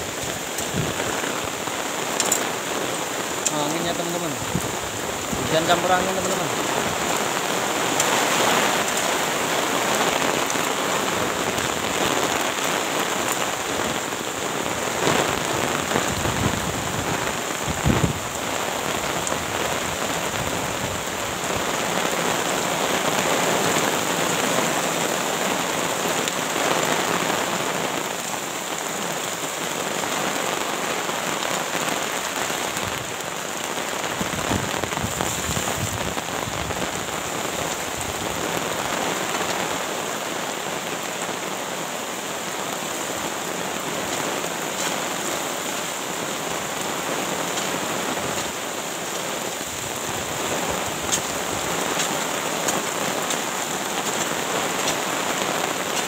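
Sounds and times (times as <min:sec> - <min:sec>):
gusting wind: 0:00.0 - 0:28.1, 0:29.1 - 0:56.0
heavy rain: 0:00.0 - 0:56.0.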